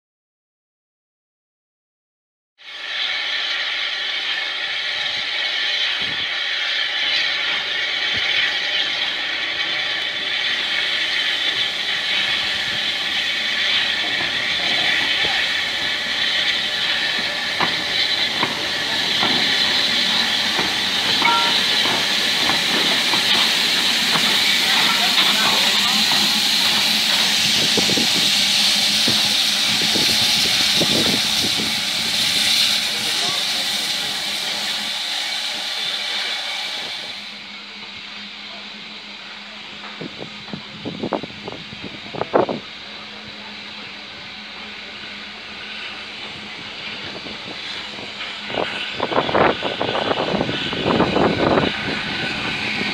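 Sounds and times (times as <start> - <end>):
steam locomotive hissing: 2.6 - 52.9.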